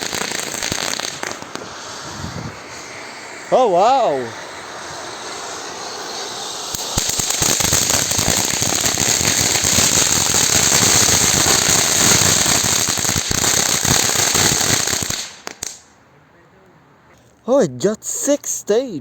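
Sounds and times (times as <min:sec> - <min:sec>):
firework fountain hissing and crackling: 0:00.0 - 0:15.9, 0:17.8 - 0:19.0.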